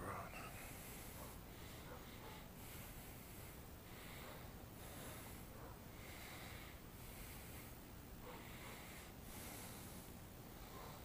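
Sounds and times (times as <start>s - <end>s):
slow steady breathing: 0.0s - 11.0s.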